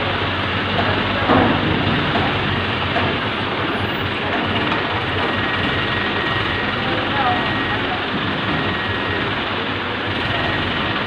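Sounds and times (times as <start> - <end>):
crane engine running: 0.0 - 11.0.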